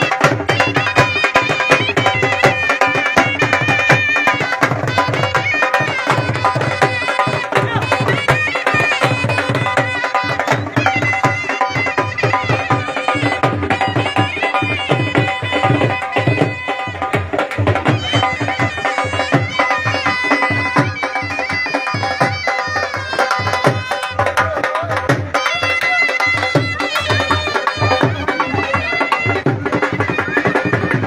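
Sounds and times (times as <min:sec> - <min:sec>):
hand drum beat: 0:00.0 - 0:31.0
reedy wind instrument melody: 0:00.0 - 0:31.0.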